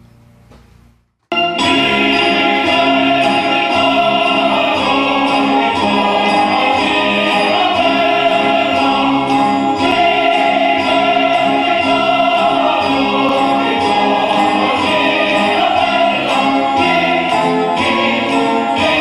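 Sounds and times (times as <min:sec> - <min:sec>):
choir singing over instruments: 0:01.3 - 0:19.0.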